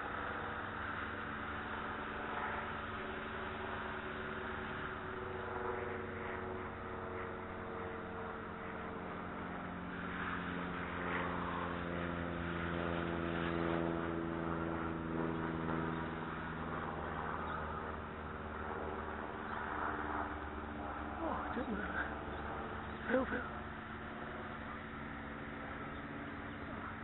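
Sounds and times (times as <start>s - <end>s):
distant engine droning: 0.0s - 27.0s.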